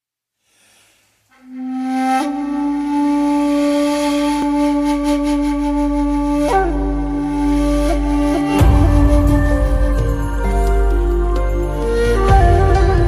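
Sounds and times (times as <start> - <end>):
flute long low note: 1.4 - 13.0.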